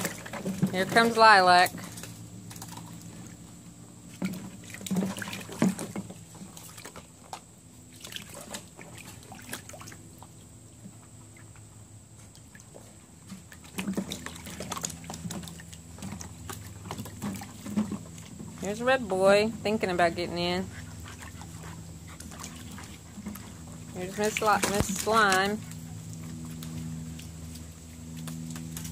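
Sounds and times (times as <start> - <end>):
puppy splashing through water: 0.0 - 28.9
steady low hum: 0.0 - 28.9.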